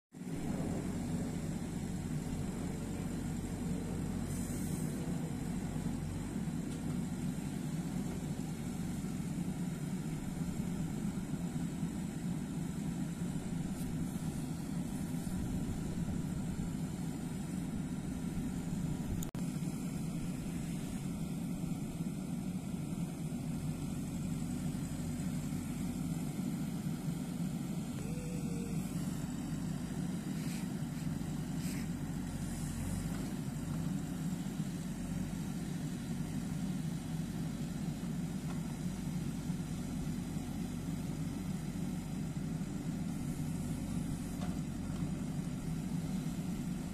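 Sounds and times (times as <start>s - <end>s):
diesel engine under load: 0.2s - 46.9s.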